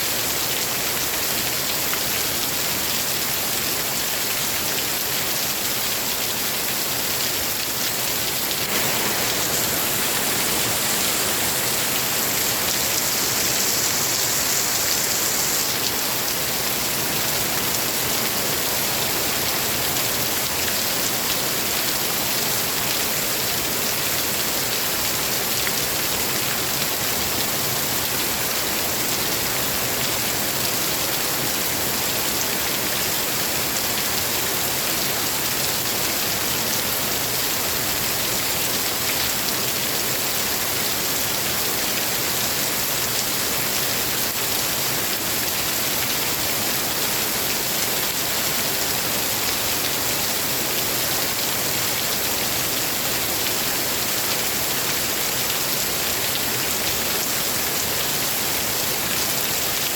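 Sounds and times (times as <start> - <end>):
heavy rain falling: 0.2 - 59.9.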